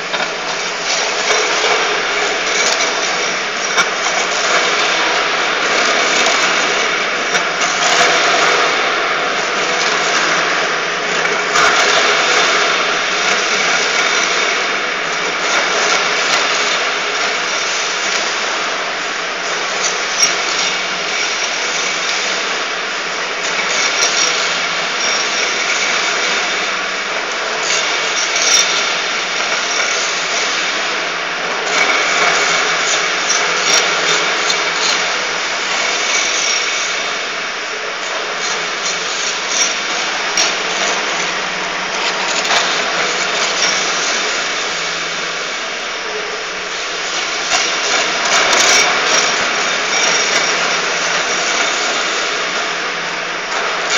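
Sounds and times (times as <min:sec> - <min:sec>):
floor grinder sanding: 0:00.0 - 0:53.9.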